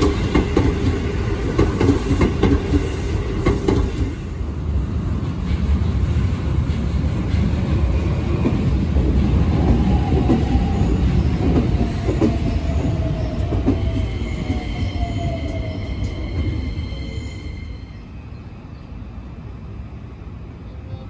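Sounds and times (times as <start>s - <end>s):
train wheel rumble: 0.0s - 18.1s.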